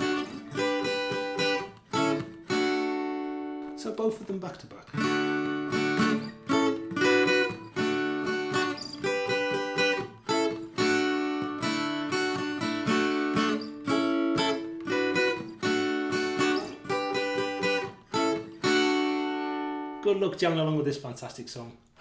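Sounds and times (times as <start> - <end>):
acoustic guitar strumming: 0.0 - 20.7.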